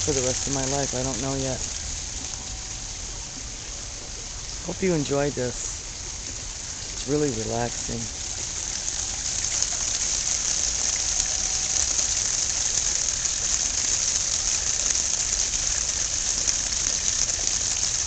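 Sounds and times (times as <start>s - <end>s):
waterfall splashing into pond: 0.0s - 18.0s.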